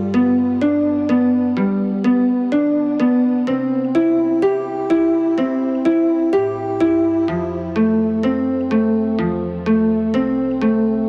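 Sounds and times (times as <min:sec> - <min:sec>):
harp melody: 0:00.0 - 0:11.0.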